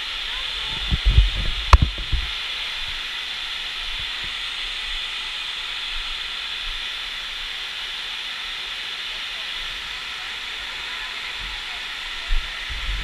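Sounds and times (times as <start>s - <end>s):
heavy artificial rain hiss: 0.0s - 13.0s.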